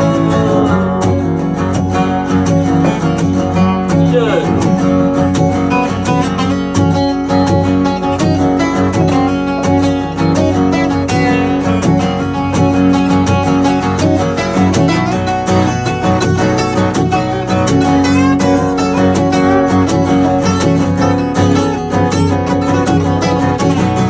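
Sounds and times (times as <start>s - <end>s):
acoustic guitars strummed and picked: 0.0s - 24.0s.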